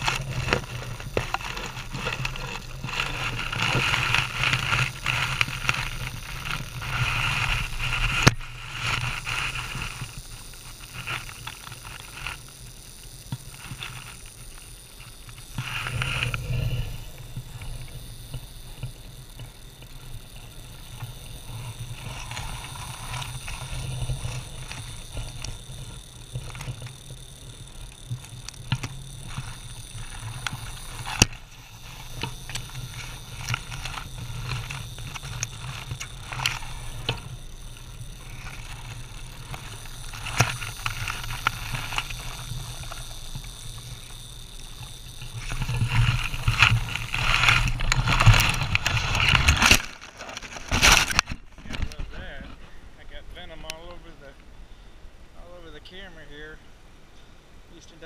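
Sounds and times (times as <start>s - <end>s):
rattlesnake rattling: 0.0s - 54.4s.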